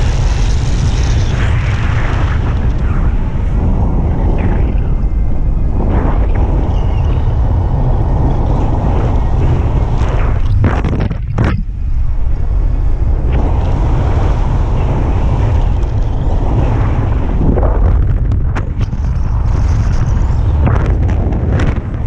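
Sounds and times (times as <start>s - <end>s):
wind noise on microphone: 0.0s - 22.0s.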